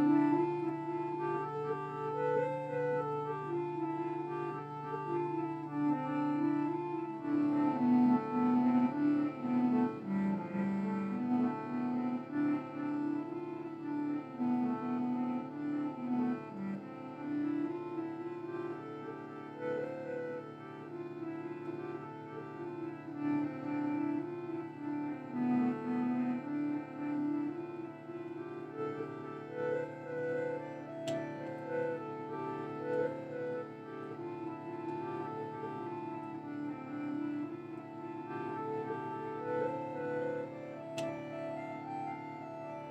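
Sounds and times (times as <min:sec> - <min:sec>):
slow keyboard and strings music: 0:00.0 - 0:42.9
slow melody of held low notes: 0:00.0 - 0:42.9.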